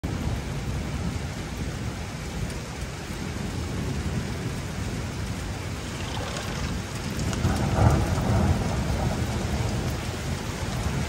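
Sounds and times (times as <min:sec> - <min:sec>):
steady rain: 0:00.0 - 0:11.0
rumble of thunder: 0:00.1 - 0:11.0.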